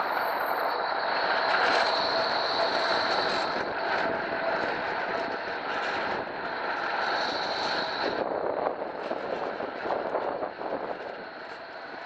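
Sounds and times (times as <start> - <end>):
tram passing with high whine: 0.0 - 12.0
tram rolling rumble with knocks: 0.0 - 12.0.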